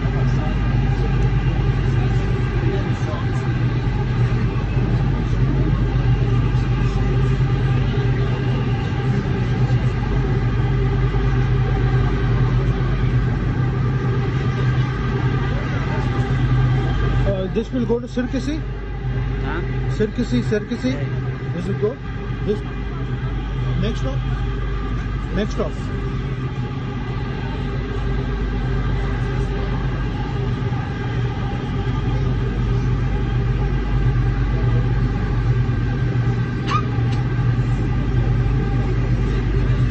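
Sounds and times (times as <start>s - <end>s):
metro train rumbling: 0.0s - 39.9s
motor hum: 0.0s - 39.9s.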